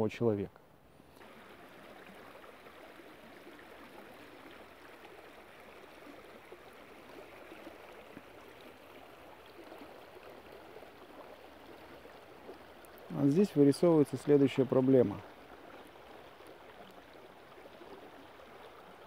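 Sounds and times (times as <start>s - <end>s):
stream rippling over stones: 1.0s - 19.0s.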